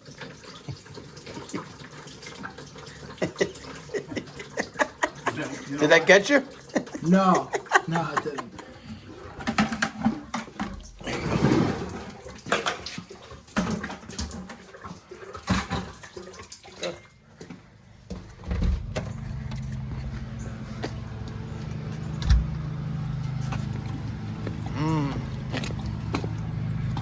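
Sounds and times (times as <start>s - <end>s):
water splashing into a bucket: 0.0s - 21.8s.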